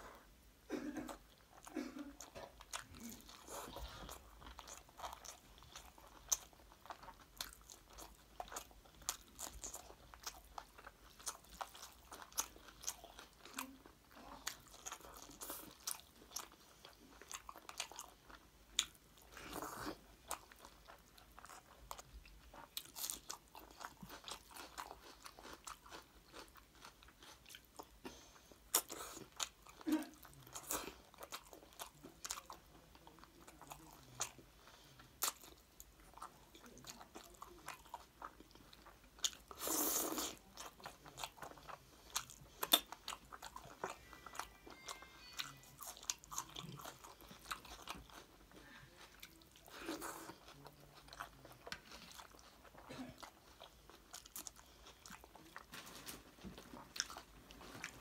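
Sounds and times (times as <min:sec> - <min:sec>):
chewing and mouth smacks: 0:01.1 - 0:58.0.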